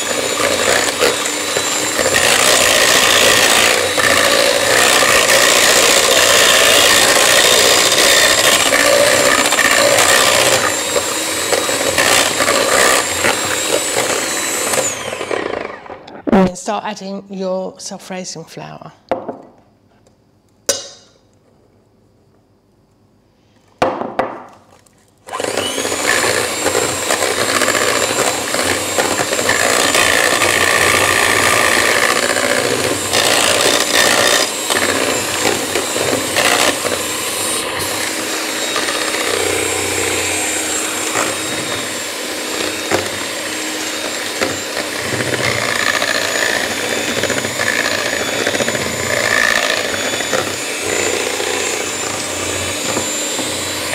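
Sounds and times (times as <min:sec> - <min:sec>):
electric hand mixer whisking: 0:00.0 - 0:16.1, 0:25.2 - 0:53.9.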